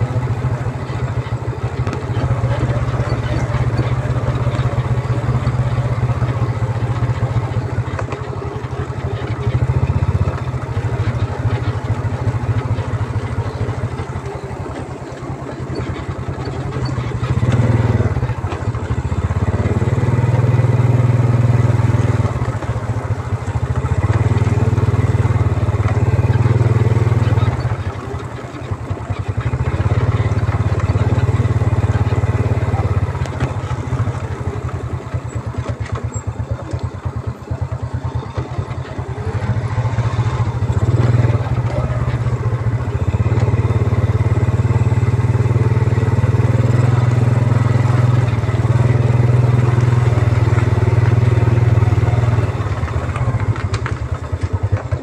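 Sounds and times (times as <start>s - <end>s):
motorbike engine running: 0.0s - 55.0s
wind and road noise: 0.0s - 55.0s.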